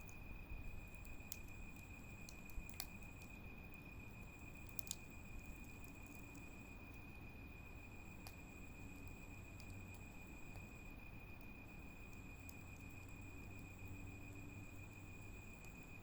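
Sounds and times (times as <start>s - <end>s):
low background noise: 0.0s - 16.0s
wood fire crackling: 0.0s - 16.0s.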